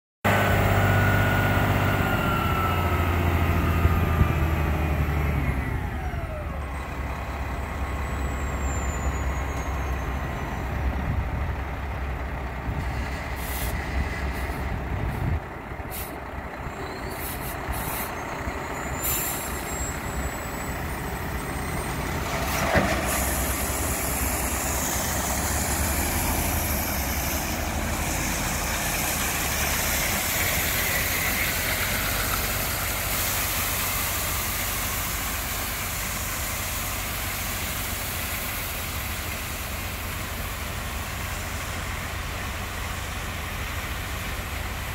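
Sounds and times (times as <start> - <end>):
diesel engine running: 0.3 - 44.9.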